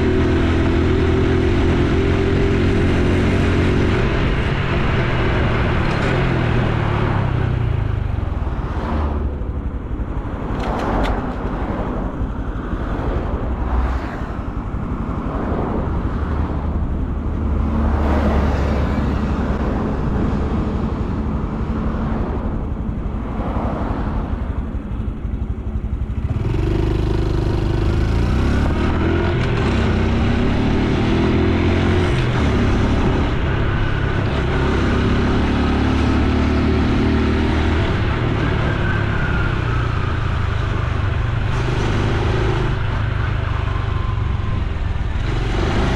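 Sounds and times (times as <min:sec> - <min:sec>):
motorcycle engine and exhaust: 0:00.0 - 0:45.9
road noise: 0:00.0 - 0:45.9
wind: 0:00.0 - 0:45.9.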